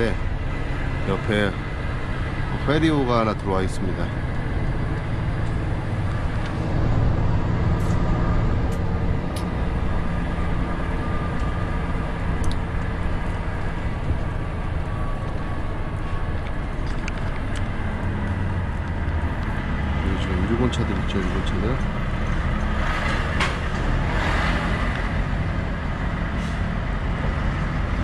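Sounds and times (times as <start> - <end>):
diesel truck engine droning: 0.0 - 28.0.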